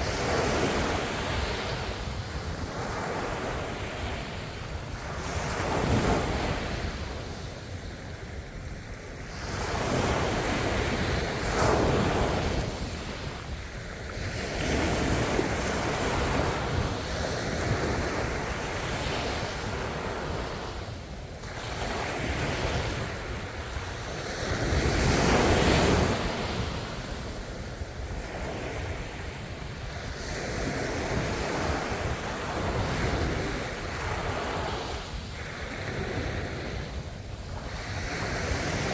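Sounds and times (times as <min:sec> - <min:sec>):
ocean waves breaking on shore: 0:00.0 - 0:38.9
wind on microphone: 0:00.0 - 0:38.9.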